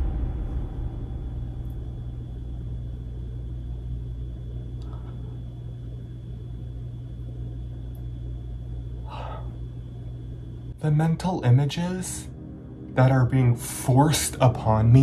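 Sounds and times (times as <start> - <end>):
faint high whine: 0.0 - 15.0
low rumbling drone: 0.0 - 15.0.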